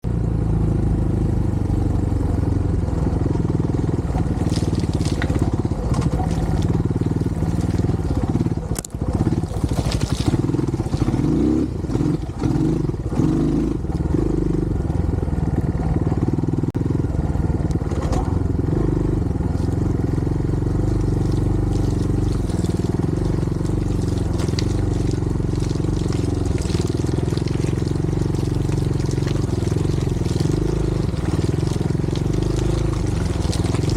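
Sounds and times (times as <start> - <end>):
dirt bike engine revving: 0.6 - 17.1, 17.8 - 33.9.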